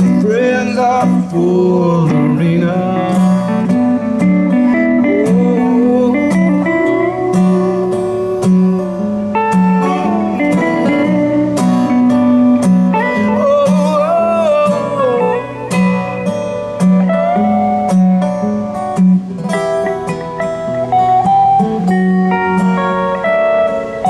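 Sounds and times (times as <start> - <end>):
electric guitar lead: 0.0 - 24.0
strummed acoustic guitar: 0.0 - 24.0.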